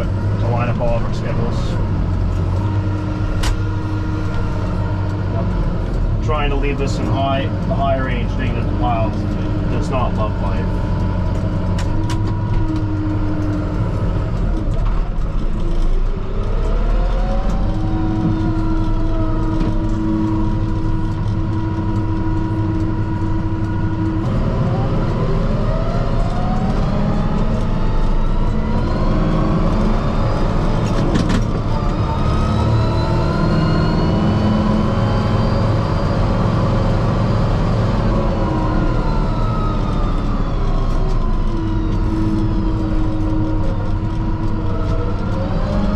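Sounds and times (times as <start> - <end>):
tractor diesel engine labouring: 0.0 - 45.9.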